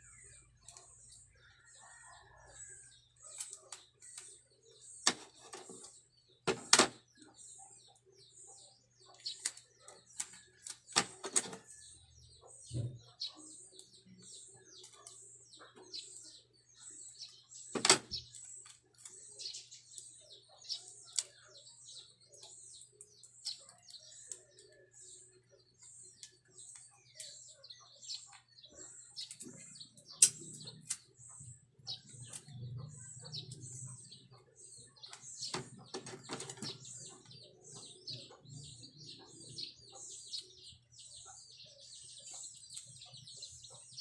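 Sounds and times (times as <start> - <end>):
bird chirping: 0.0 - 44.0.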